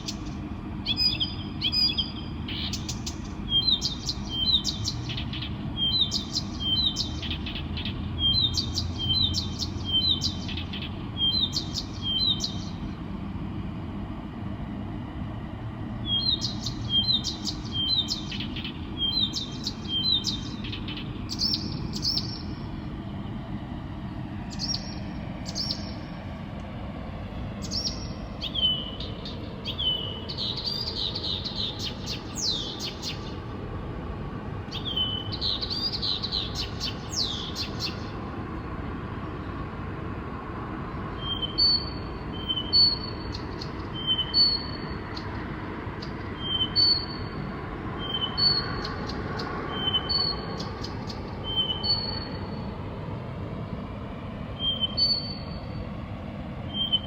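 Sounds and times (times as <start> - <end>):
songbird singing: 0.0 - 39.6, 40.5 - 57.0
low background rumble: 0.0 - 57.0.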